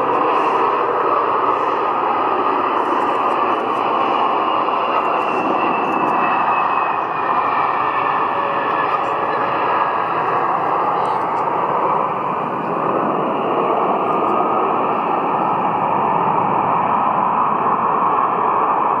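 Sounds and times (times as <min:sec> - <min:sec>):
jet engine roar: 0:00.0 - 0:19.0
thin engine whine: 0:00.0 - 0:19.0.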